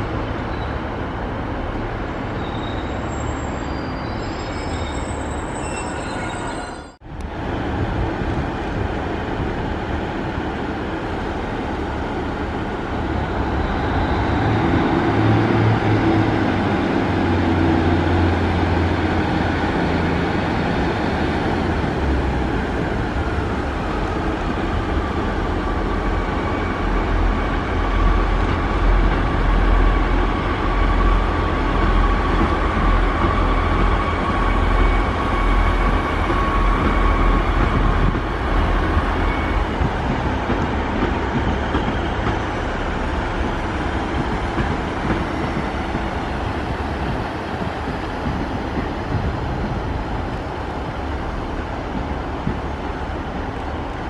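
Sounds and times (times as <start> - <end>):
train engine and wheel rumble: 0.0 - 54.0.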